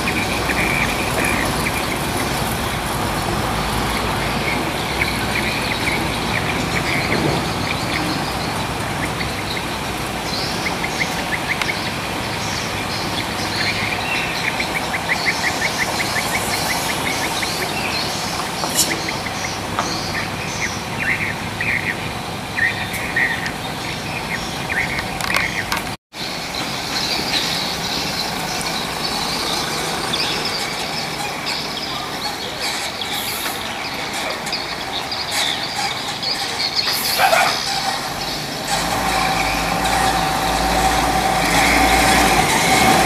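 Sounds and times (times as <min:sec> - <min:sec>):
birds chirping: 0:00.0 - 0:43.0
heavy trucks rumbling: 0:00.0 - 0:43.0.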